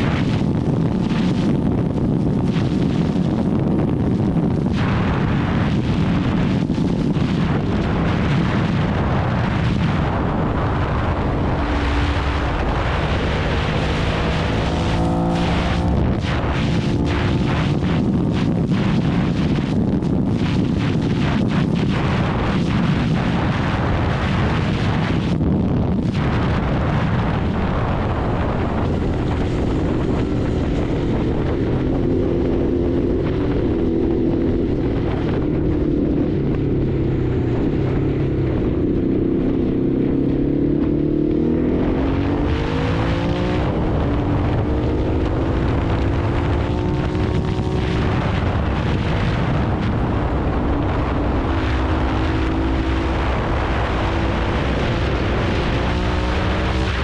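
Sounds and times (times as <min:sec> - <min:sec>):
motorcycle engine revving: 0:00.0 - 0:20.1, 0:26.2 - 0:57.0.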